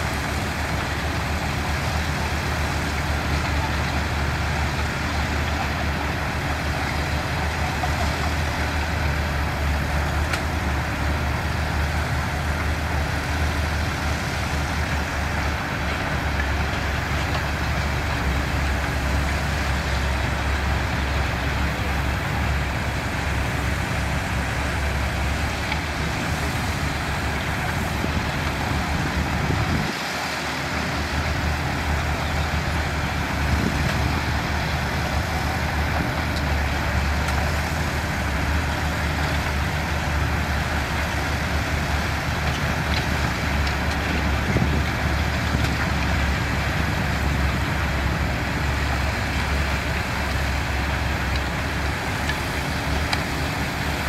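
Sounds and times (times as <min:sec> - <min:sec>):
diesel engine of heavy machinery: 0:00.0 - 0:54.0.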